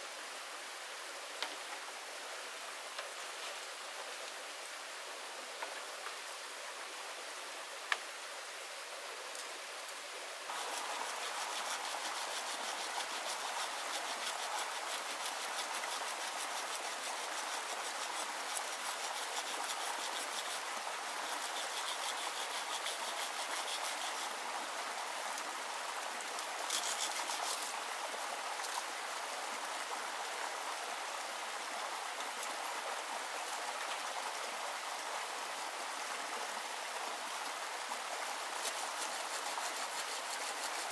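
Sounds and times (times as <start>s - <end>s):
rain: 0.0s - 40.9s
stream rushing: 0.0s - 40.9s.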